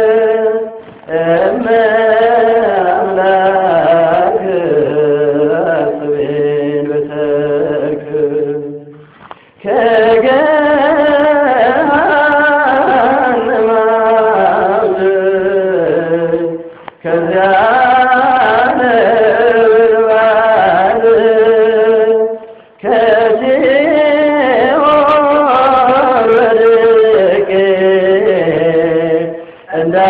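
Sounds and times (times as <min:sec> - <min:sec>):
person singing a hymn: 0:00.0 - 0:30.0.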